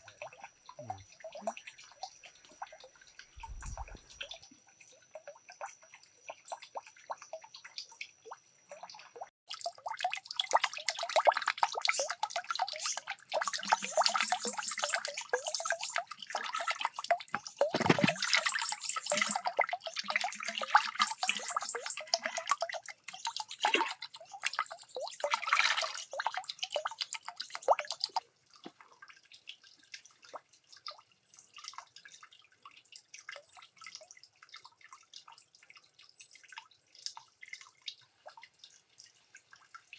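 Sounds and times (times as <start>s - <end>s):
water dripping and trickling: 0.0s - 39.9s
water pouring and splashing: 0.0s - 39.9s.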